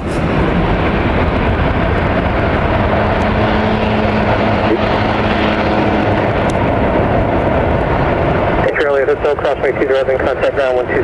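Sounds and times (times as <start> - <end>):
jet engines roaring on landing: 0.0 - 11.0.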